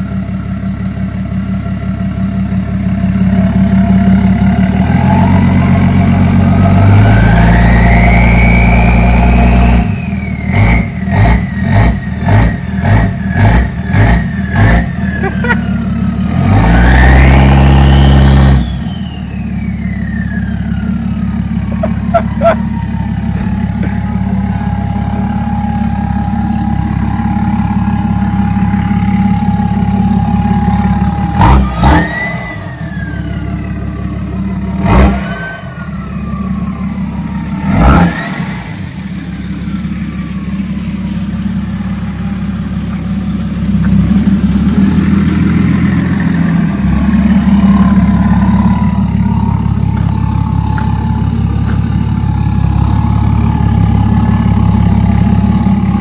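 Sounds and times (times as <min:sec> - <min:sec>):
diesel engine idling and revving: 0:00.0 - 0:56.0.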